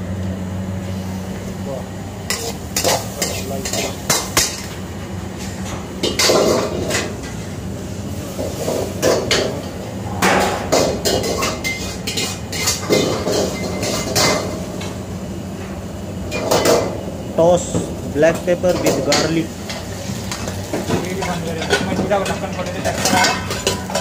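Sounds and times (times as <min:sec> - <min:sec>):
steady low hum: 0:00.0 - 0:20.5.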